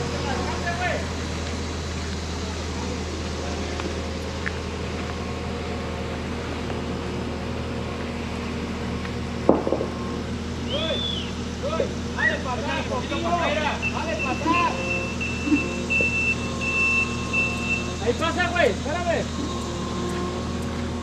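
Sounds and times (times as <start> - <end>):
skid steer engine running: 0.0 - 21.0.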